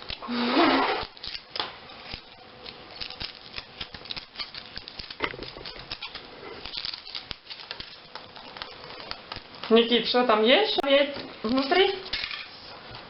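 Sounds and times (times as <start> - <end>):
foil wrapper crinkling: 0.0 - 10.3, 11.4 - 12.7.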